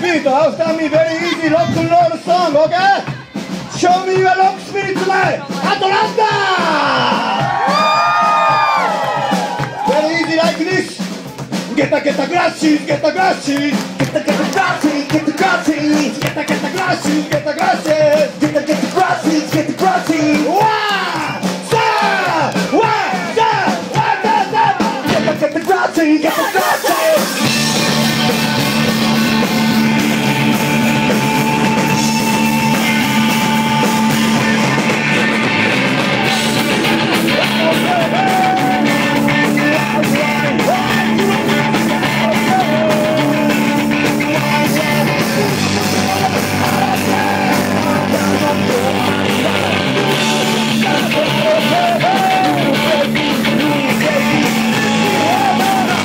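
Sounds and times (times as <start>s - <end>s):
live punk rock band: 0.0s - 56.0s.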